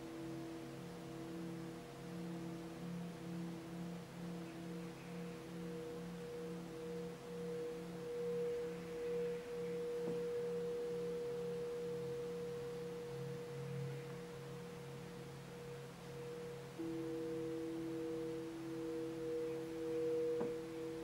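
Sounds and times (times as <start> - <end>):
singing bowls ringing: 0.0 - 21.0.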